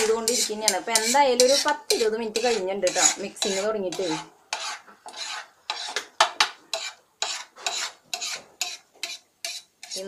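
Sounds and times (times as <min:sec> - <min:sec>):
steel spatula scraping on griddle: 0:00.0 - 0:06.0, 0:06.7 - 0:10.0.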